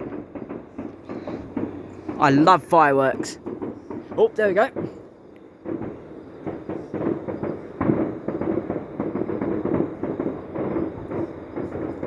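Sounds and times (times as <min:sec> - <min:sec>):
distant fireworks bangs and crackles: 0:00.0 - 0:12.0.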